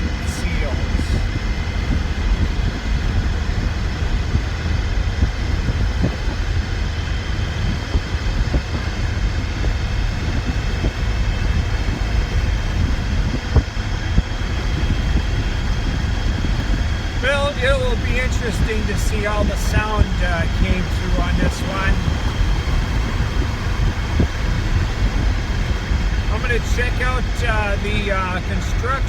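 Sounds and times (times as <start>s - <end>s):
road and drivetrain rumble: 0.0s - 29.0s.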